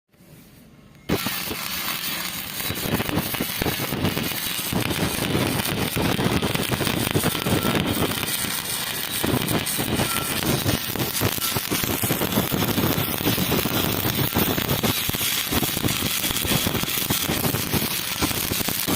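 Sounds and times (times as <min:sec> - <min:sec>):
arc welding crackling sizzle: 0:01.1 - 0:18.9.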